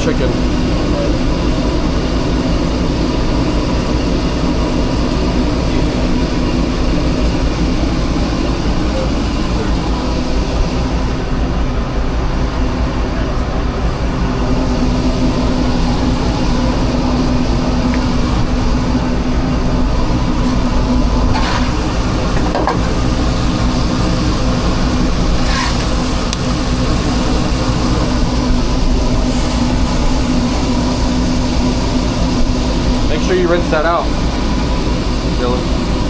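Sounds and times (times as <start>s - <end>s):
mechanical drone: 0.0s - 36.0s.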